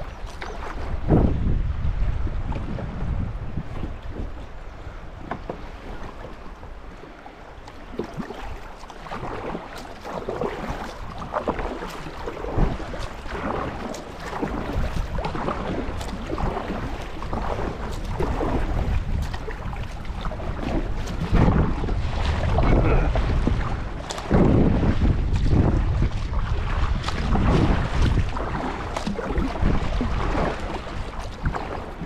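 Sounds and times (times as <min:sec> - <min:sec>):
river water rushing and splashing: 0:00.0 - 0:32.0
wind rumble on microphone: 0:00.0 - 0:32.0.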